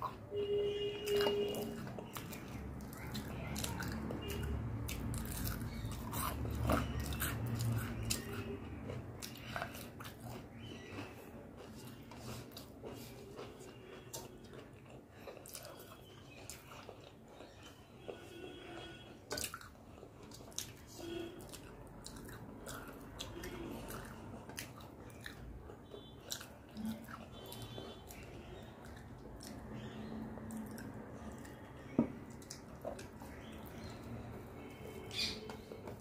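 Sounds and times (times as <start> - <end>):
chewing and wet mouth sounds: 0.0 - 36.0.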